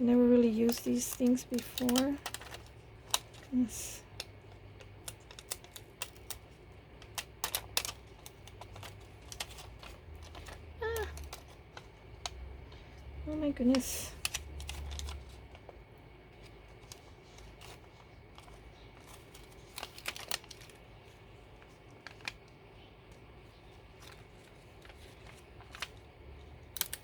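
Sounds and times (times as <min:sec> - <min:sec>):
paper rustling: 0:00.4 - 0:12.8, 0:13.6 - 0:27.0.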